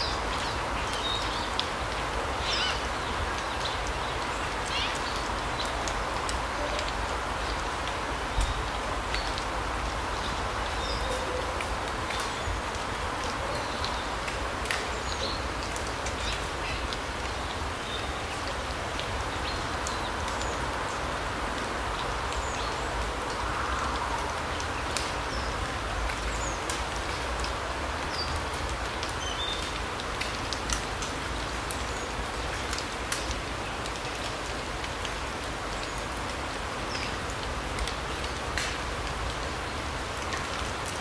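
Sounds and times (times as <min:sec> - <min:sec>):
steady hiss with small ticks: 0:00.0 - 0:41.0.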